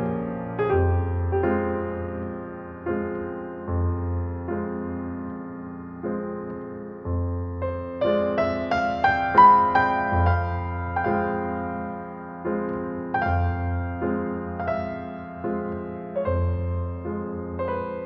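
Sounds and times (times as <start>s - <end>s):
slow soft piano music: 0.0s - 18.0s.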